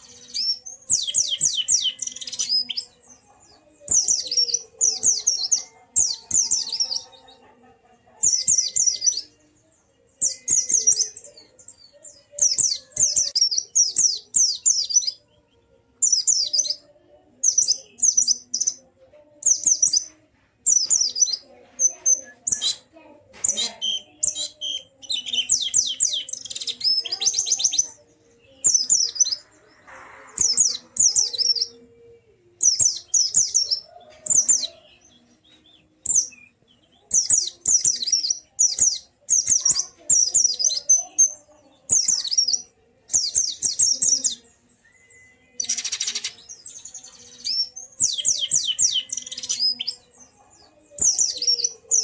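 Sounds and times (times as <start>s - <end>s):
bird singing chattering phrases: 0.0s - 52.0s.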